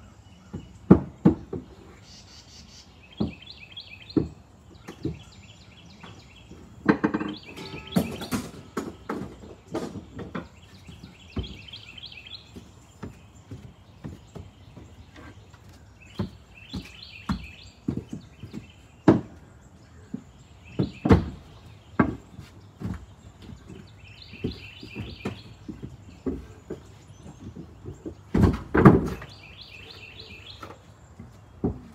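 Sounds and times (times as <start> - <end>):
bird chirping: 0.0 - 31.9
wooden boards knocking on steps: 0.5 - 1.8, 3.2 - 3.5, 4.1 - 5.4, 6.0 - 31.9.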